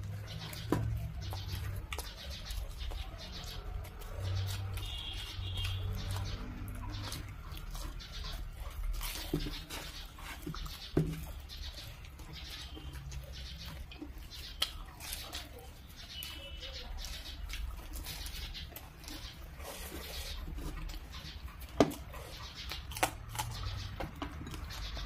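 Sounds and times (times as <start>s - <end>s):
people chewing food: 0.0s - 25.0s.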